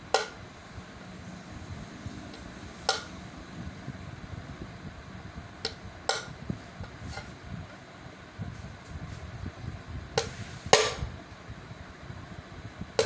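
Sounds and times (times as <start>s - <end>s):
low steady rumbling: 0.0s - 13.0s.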